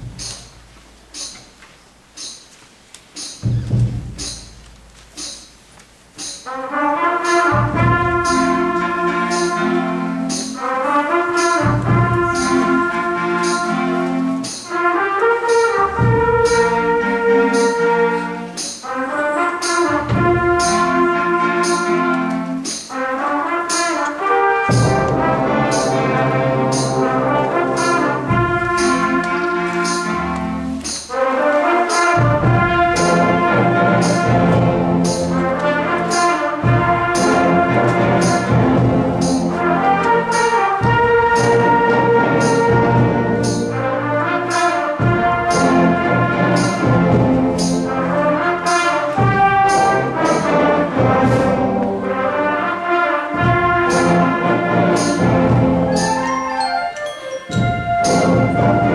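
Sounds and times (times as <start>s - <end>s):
concert band playing: 0.0s - 58.9s
steady percussion beat: 0.0s - 58.9s
brass sustained chords: 6.4s - 56.6s.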